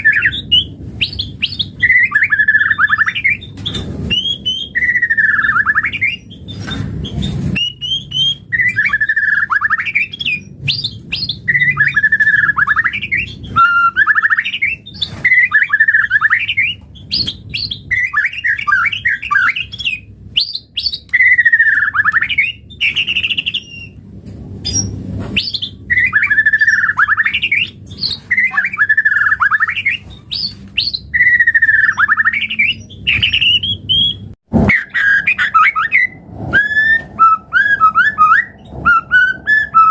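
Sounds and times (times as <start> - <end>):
bird singing warbled phrases: 0.0 - 24.0, 24.6 - 39.9.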